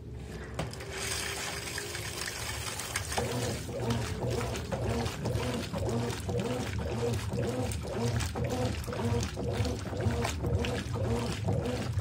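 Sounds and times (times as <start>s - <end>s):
washing machine motor hum: 0.0s - 12.0s
water sloshing in washing machine: 0.0s - 12.0s.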